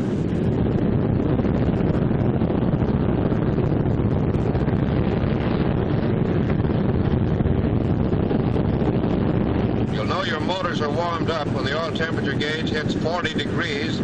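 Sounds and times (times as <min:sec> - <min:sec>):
radial aircraft engines running: 0:00.0 - 0:14.0.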